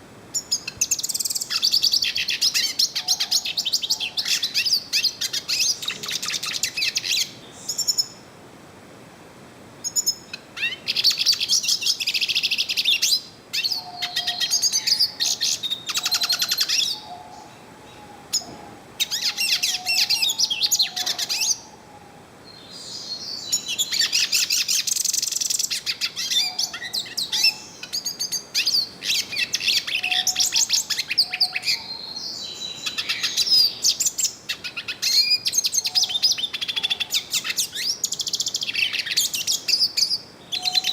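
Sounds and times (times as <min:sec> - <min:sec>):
bird twittering song: 0:00.4 - 0:08.2, 0:09.8 - 0:21.8, 0:22.5 - 0:40.9.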